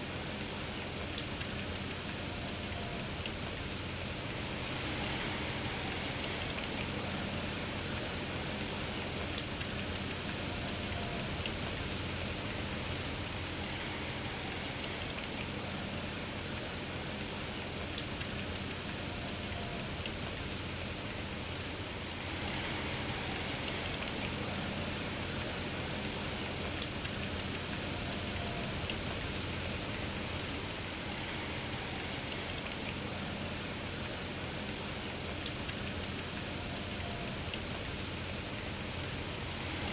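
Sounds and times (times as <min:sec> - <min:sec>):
loud sharp raindrops: 0:00.0 - 0:39.9
steady rain falling: 0:00.0 - 0:39.9.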